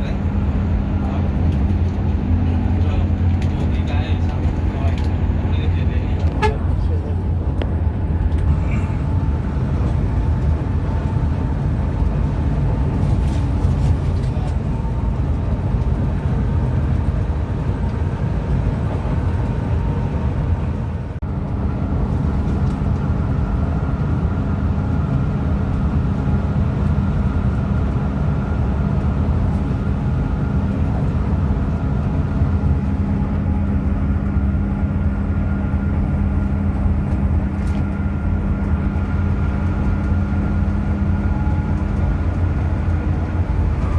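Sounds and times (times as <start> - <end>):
coach engine drone: 0.0 - 43.9.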